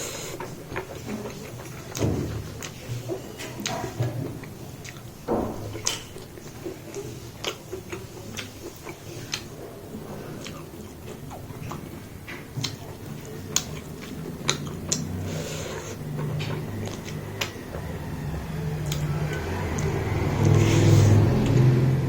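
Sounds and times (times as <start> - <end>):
person chewing food: 0.0 - 21.8.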